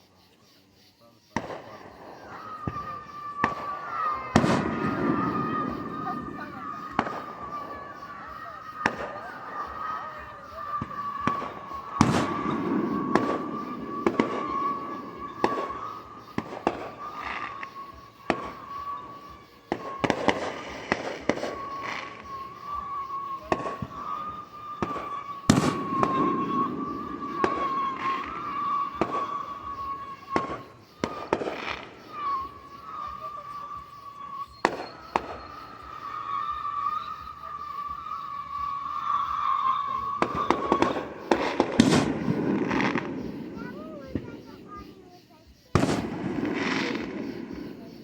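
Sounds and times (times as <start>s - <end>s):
firework crackling: 1.2s - 48.0s
firework bangs: 1.3s - 48.0s.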